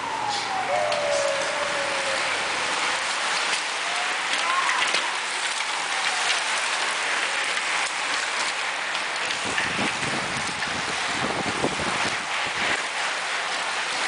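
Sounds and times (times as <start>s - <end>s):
bicycle tyres hissing on wet road: 0.0s - 14.0s.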